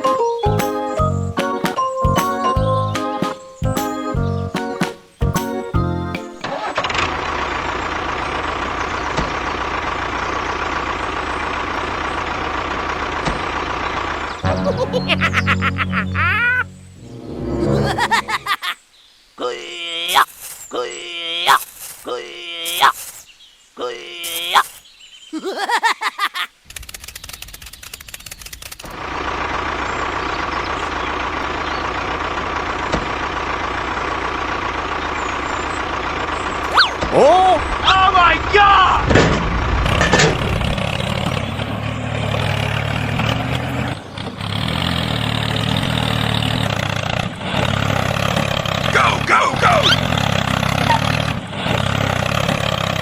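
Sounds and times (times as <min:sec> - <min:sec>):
tractor engine running: 0:00.0 - 0:18.3, 0:26.8 - 0:53.0.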